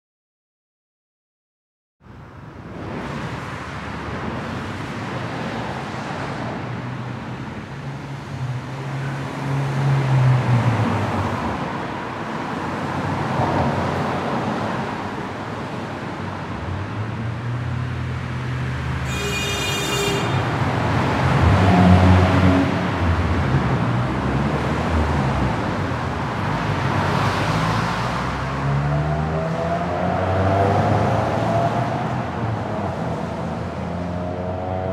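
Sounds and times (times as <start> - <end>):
cars driving by: 2.1 - 34.9.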